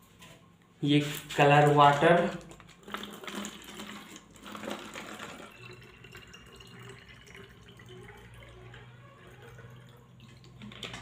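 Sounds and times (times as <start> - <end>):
water pouring into plastic bottle: 1.2 - 11.0.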